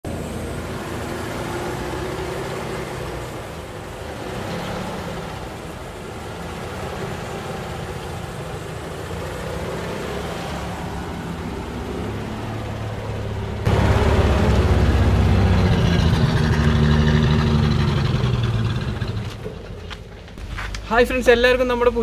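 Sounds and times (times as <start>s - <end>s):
car engine idling: 0.0s - 21.4s.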